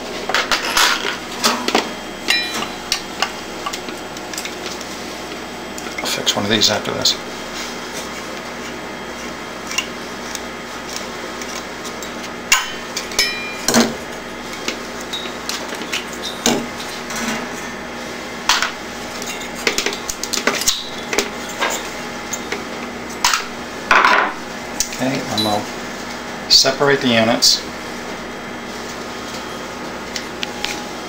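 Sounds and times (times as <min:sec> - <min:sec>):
steady background hum: 0:00.0 - 0:31.0.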